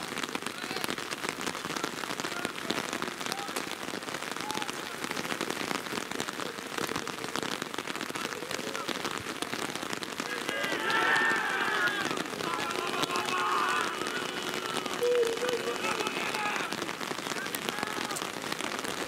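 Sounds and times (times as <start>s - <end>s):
raindrops hitting close: 0.0s - 19.0s
steady rain: 0.0s - 19.0s.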